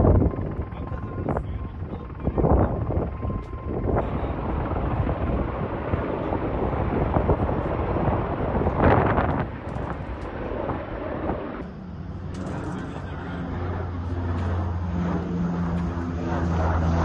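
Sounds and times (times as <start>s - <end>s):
helicopter rotor and engine: 0.0s - 17.0s
wind buffeting microphone: 0.0s - 17.0s.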